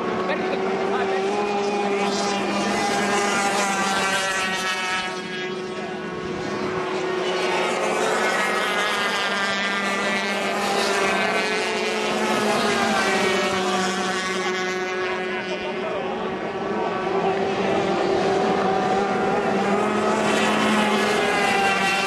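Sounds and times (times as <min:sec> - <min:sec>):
powerboat engines whining: 0:00.0 - 0:22.0.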